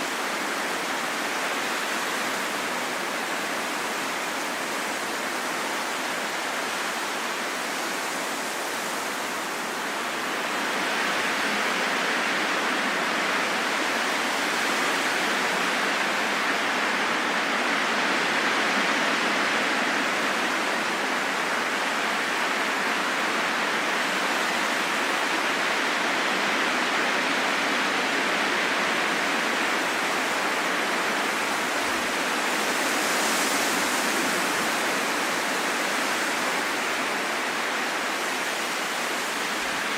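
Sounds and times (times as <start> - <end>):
steady rushing wind: 0.0 - 39.9.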